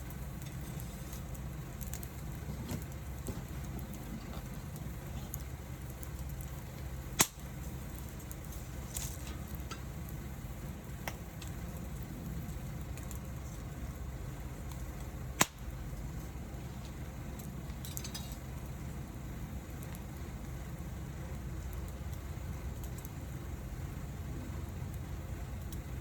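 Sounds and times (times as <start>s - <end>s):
campfire crackling ticks: 0.0s - 26.0s
fire low rumble: 0.0s - 26.0s
loud fire pops: 0.0s - 26.0s.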